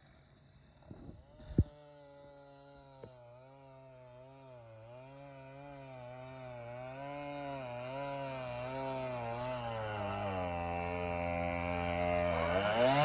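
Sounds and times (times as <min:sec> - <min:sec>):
chainsaw engine wavering pitch: 0:00.0 - 0:13.0.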